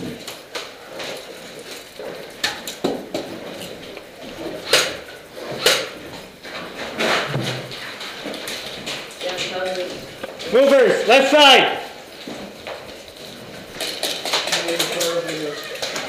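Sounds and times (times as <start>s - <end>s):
sharp knocks and clacks: 0.0s - 11.2s, 11.8s - 16.0s.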